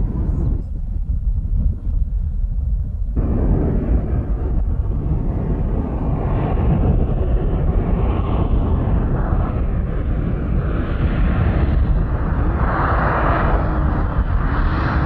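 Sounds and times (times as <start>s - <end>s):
car engine and exhaust rumble: 0.0s - 15.0s.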